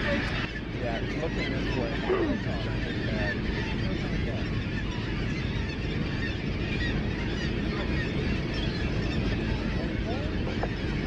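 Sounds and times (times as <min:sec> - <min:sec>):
boat engine rumble: 0:00.0 - 0:11.0
seabirds calling: 0:00.0 - 0:11.0.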